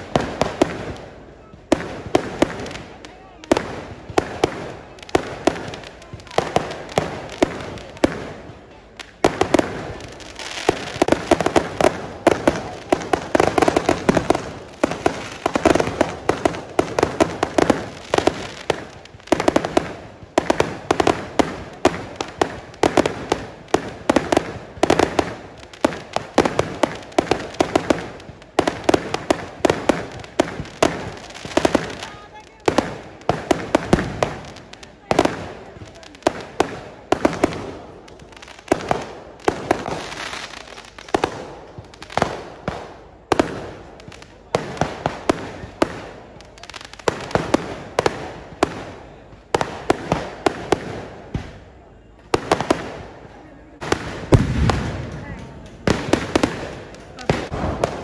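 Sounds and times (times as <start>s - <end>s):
fireworks bangs and cracks: 0.0s - 58.0s.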